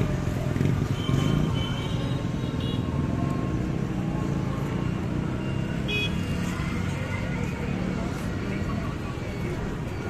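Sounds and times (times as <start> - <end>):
rumble of passing vehicles: 0.0 - 10.0.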